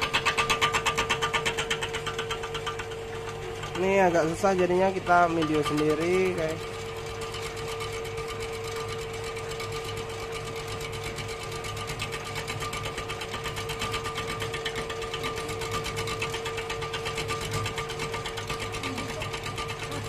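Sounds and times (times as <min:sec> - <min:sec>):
cutting tool chatter: 0:00.0 - 0:20.0
lathe motor hum: 0:00.0 - 0:20.0.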